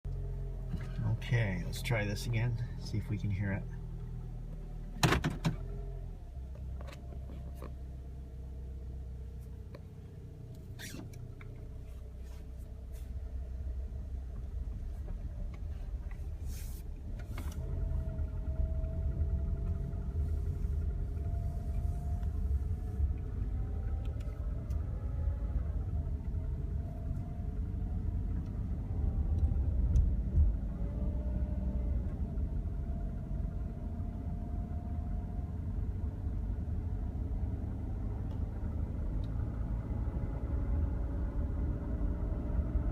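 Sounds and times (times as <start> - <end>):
car engine running: 0.1 - 42.9.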